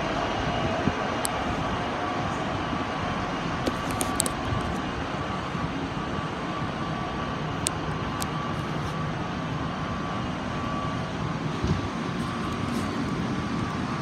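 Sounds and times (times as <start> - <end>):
faint steady whine: 0.0 - 14.0
train engine idling: 0.0 - 14.0.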